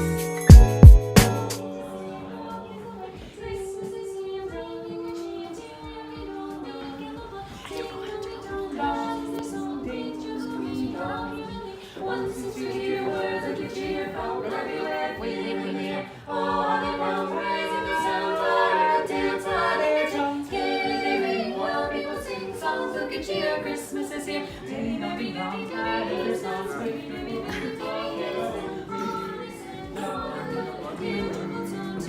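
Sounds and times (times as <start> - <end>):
a cappella group singing: 0.0 - 32.0.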